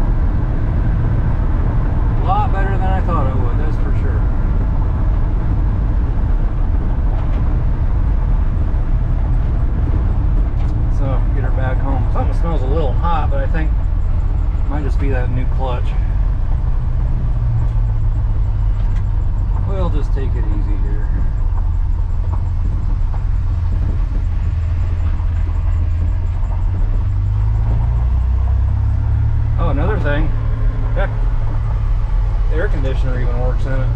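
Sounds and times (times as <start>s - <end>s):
truck engine rumble: 0.0s - 33.9s
tyres on gravel road: 0.0s - 33.9s.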